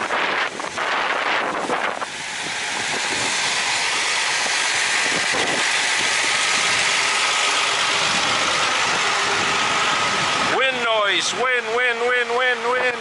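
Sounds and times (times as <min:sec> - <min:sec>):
strong wind on microphone: 0:00.0 - 0:11.4.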